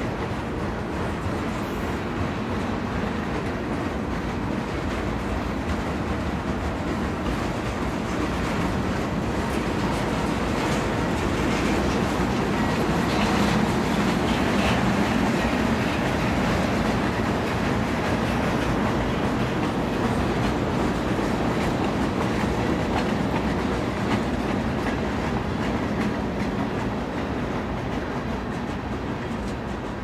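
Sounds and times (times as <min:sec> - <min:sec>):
train wheels rolling on rails: 0:00.0 - 0:30.0.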